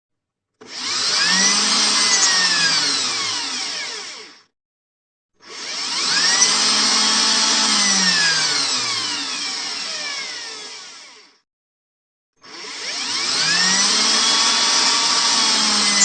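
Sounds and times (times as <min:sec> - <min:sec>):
electric drill whining: 0:00.6 - 0:04.5, 0:05.4 - 0:11.4, 0:12.4 - 0:16.0.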